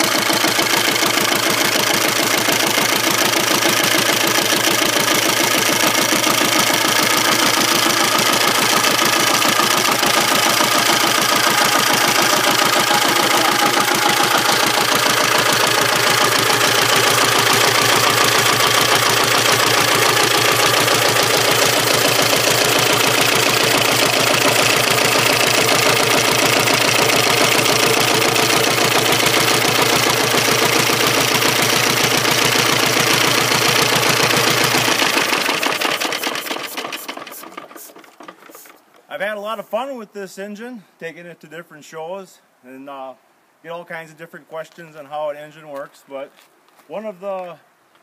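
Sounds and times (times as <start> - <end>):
engine running: 0.0 - 38.8.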